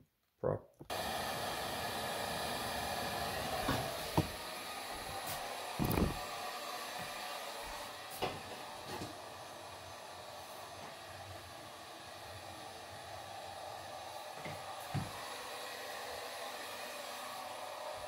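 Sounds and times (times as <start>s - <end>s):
heat gun blowing hot air: 0.9s - 18.0s.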